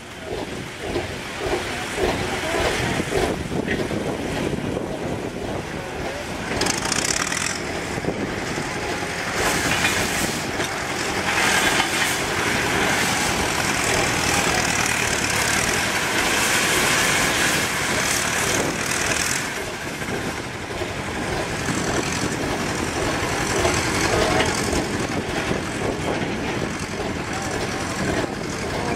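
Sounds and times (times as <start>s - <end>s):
steam machinery hissing and clattering: 0.0s - 28.9s.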